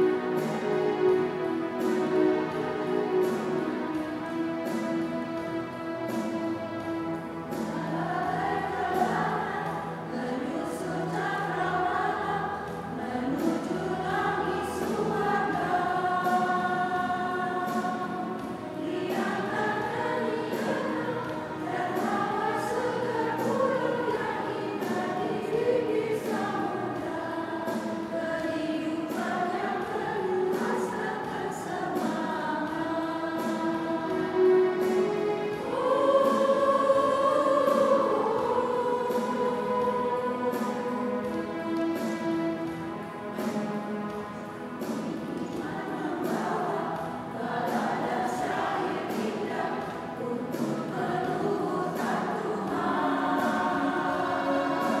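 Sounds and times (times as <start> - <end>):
church choir singing a hymn: 0.0 - 55.0.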